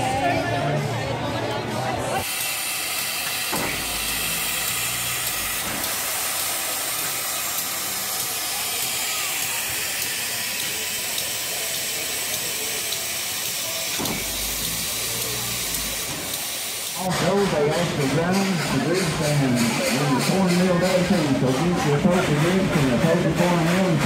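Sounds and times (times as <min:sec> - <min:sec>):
steam locomotive hissing: 0:02.2 - 0:24.0.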